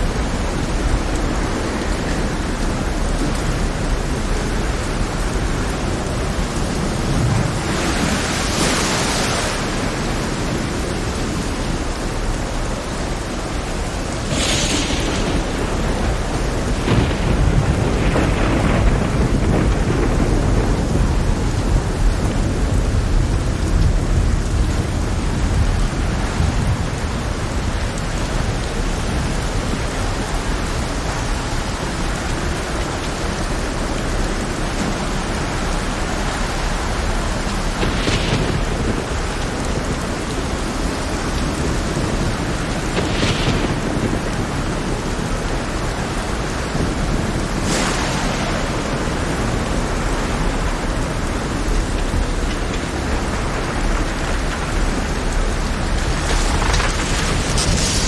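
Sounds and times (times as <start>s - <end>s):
heavy rain pouring: 0.0s - 58.0s
rolling thunder: 0.0s - 58.0s.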